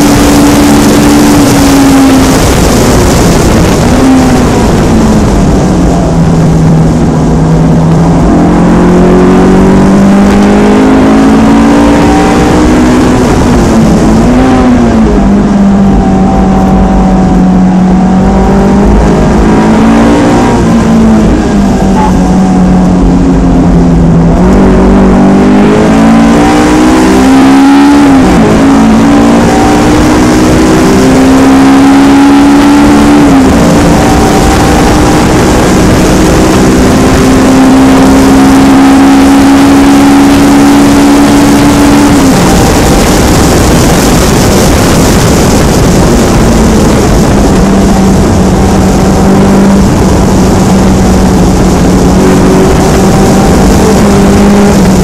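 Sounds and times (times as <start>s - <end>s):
car engine revving: 0.0s - 55.0s
loud rushing noise: 0.0s - 55.0s.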